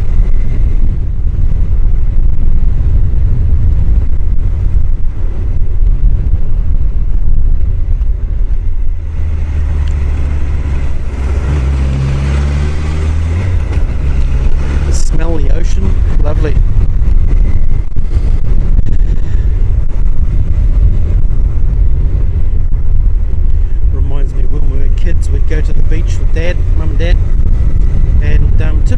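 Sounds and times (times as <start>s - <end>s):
motorcycle engine hum: 0.0s - 28.9s
wind rumble on microphone: 0.0s - 28.9s.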